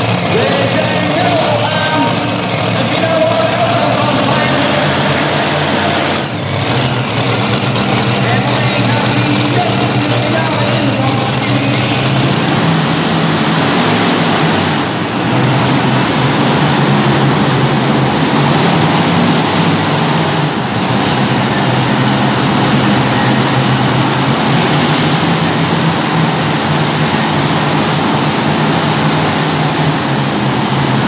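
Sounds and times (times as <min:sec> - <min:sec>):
tractor engines idling: 0:00.0 - 0:31.0.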